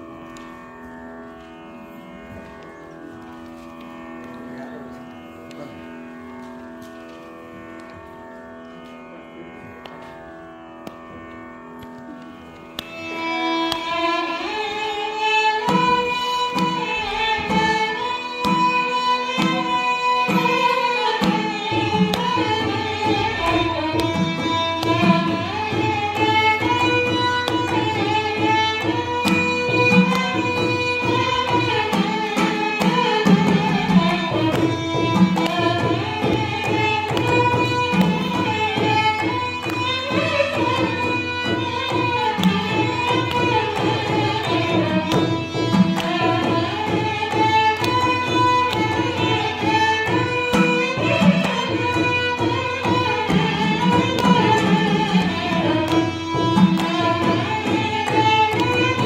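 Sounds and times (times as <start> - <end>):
violins playing melody: 0.0 - 59.0.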